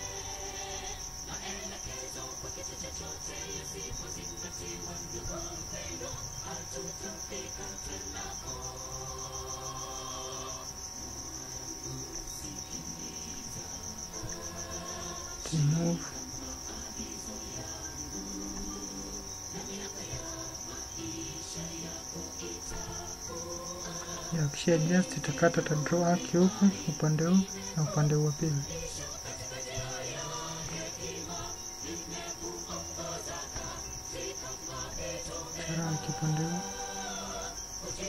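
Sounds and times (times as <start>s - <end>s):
cricket trilling: 0.0s - 38.0s.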